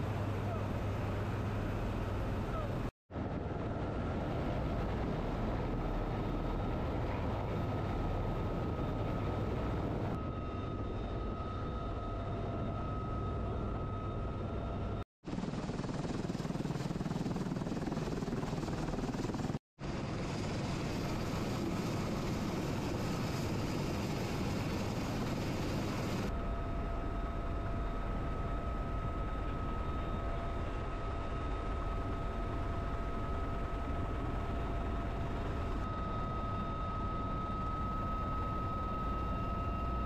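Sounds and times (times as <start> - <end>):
helicopter rotor and turbine: 0.0 - 40.0.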